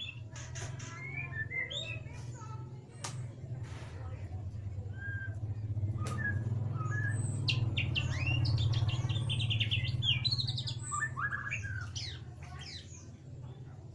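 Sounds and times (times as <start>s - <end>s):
bird singing twittering song: 0.0s - 3.4s, 4.2s - 13.8s.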